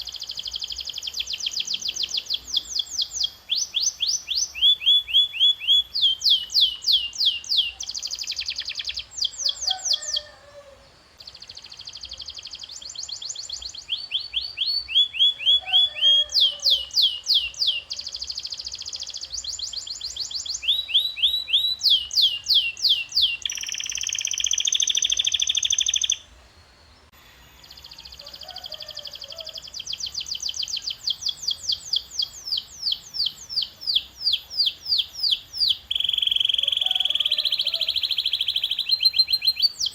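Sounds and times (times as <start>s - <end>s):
canary singing trills: 0.0s - 26.3s, 27.0s - 39.9s.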